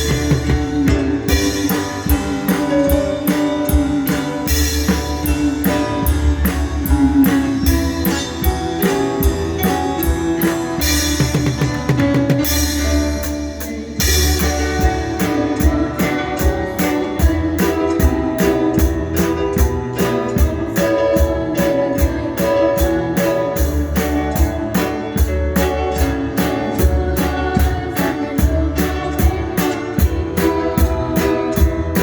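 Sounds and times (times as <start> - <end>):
drum kit beat: 0.0 - 32.0
guitar: 0.0 - 32.0.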